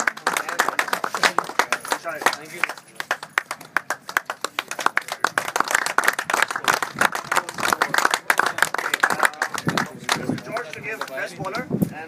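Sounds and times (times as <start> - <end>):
people clapping: 0.0 - 11.7.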